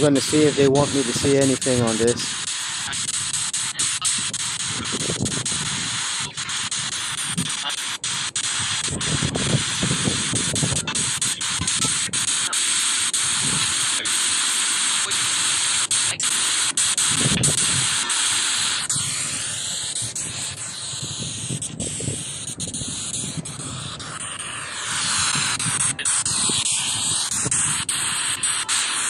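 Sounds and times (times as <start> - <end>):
loud steady hiss: 0.0 - 29.0.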